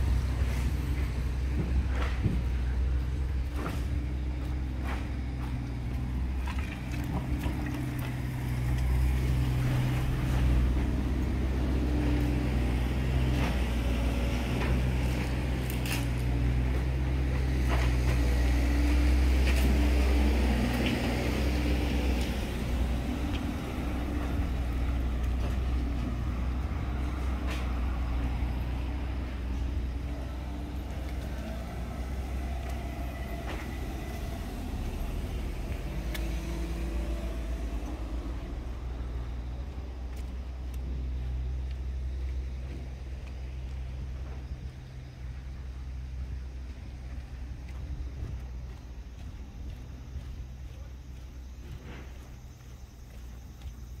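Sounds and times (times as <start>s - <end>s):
traffic engine rumble: 0.0s - 54.0s.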